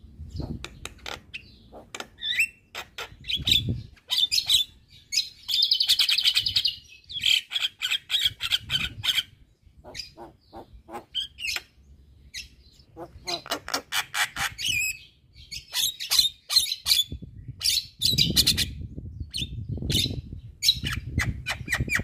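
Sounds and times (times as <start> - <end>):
myna bird song: 0.0 - 22.0.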